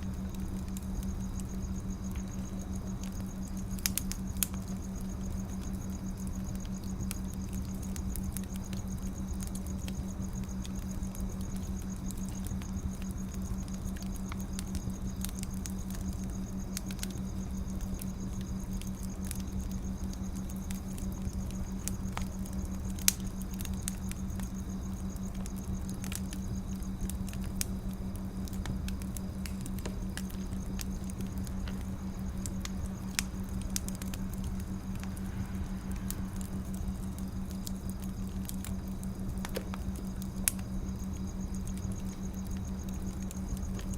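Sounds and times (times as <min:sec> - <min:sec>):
steady low hum: 0:00.0 - 0:43.9
wood fire crackling and popping: 0:00.0 - 0:43.9.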